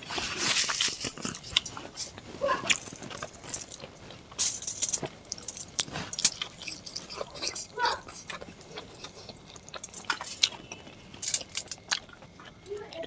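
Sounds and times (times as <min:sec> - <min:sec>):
wet chewing: 0:00.0 - 0:13.0.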